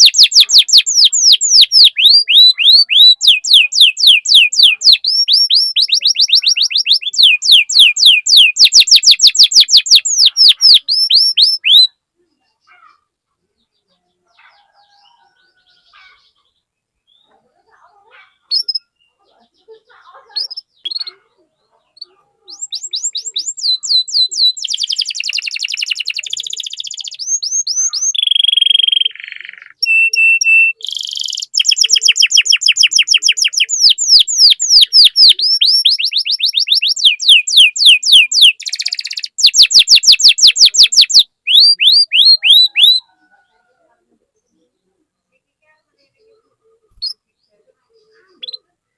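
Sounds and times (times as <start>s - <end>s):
canary singing trilled song: 0.0s - 13.0s, 13.6s - 43.8s, 44.4s - 48.9s.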